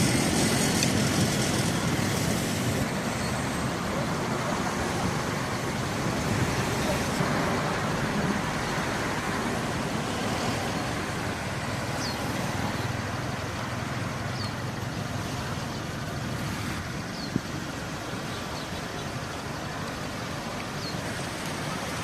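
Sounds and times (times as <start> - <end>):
vehicle road noise: 0.0 - 22.0.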